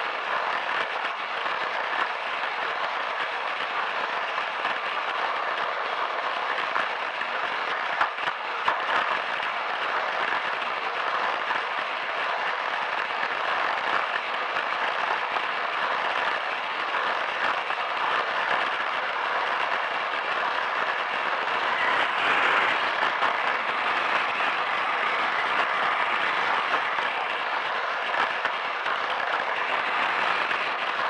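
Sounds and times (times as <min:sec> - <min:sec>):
toy train motor whirring: 0:00.0 - 0:31.0.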